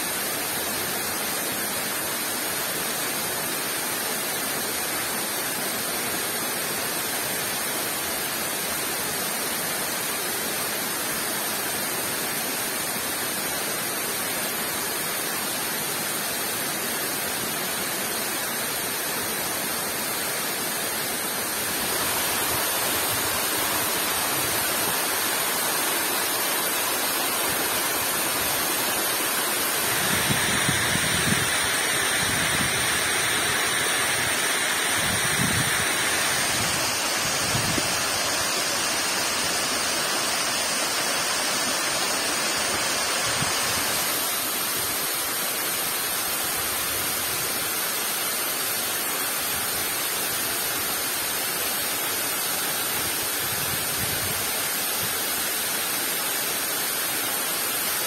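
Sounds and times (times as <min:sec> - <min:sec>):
heavy rain: 0:00.0 - 0:58.0
waterfall rushing: 0:00.0 - 0:58.0.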